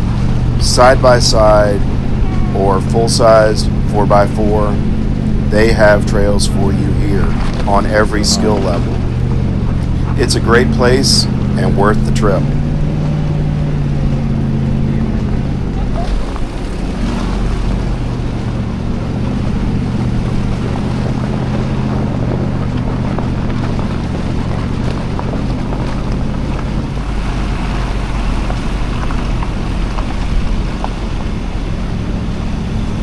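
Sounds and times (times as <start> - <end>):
car engine droning: 0.0 - 33.0
road and wind noise: 0.0 - 33.0.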